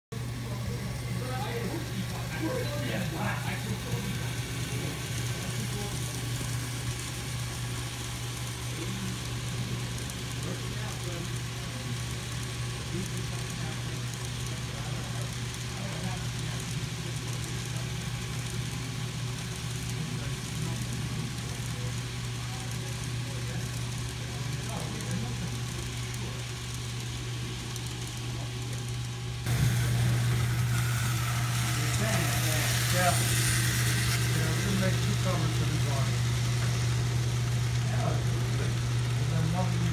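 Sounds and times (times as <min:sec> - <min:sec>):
model train running on track: 0:00.2 - 0:39.9.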